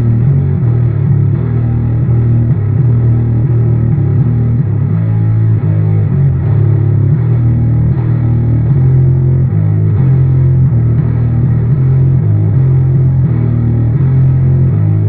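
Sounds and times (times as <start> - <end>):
overdriven electric bass guitar: 0.0 - 15.0.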